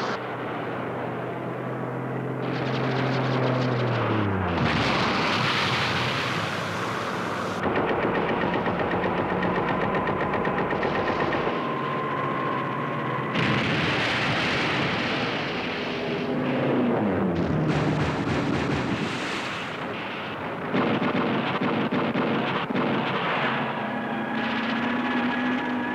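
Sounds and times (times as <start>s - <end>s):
diving aircraft engine: 0.0s - 21.4s
rapid anti-aircraft gunfire: 2.3s - 25.0s.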